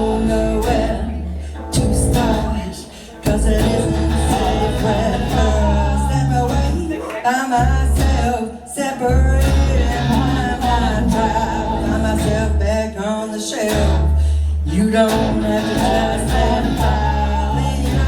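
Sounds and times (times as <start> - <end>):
sustained bass notes: 0.0 - 7.0, 7.6 - 18.0
guitar: 0.0 - 18.0.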